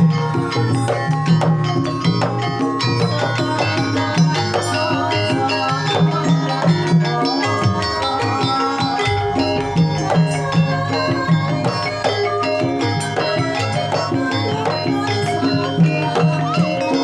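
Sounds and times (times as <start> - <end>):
repeating drum rhythm: 0.0 - 17.0
ringing metallophone tones: 0.0 - 17.0.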